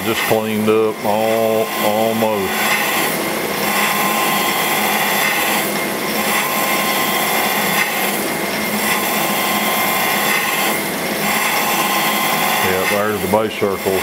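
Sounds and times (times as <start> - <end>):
grinding wheel grinding metal: 0.0 - 14.0
machine hum: 0.0 - 14.0.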